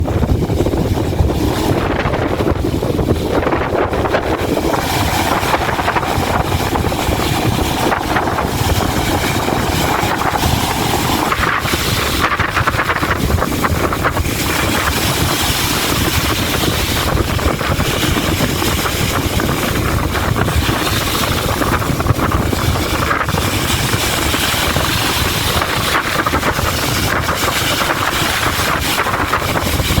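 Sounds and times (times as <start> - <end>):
waves washing onto shore: 0.0 - 30.0
wind buffeting microphone: 0.0 - 30.0.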